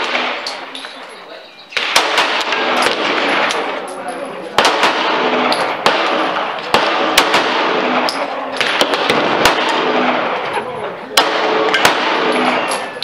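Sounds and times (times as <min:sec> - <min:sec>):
pistol shots: 0:00.0 - 0:00.9, 0:01.7 - 0:10.5, 0:11.1 - 0:13.0.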